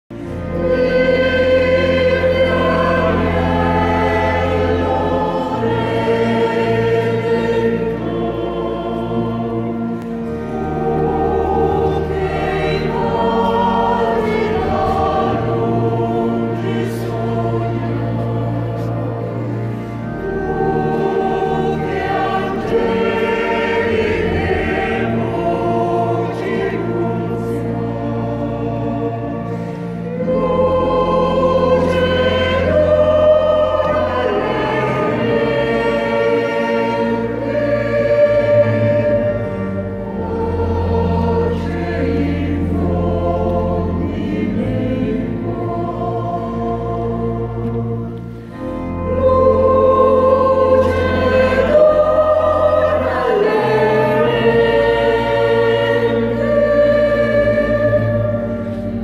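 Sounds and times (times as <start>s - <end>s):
choir singing a hymn: 0.1s - 59.0s
organ accompaniment: 0.1s - 59.0s.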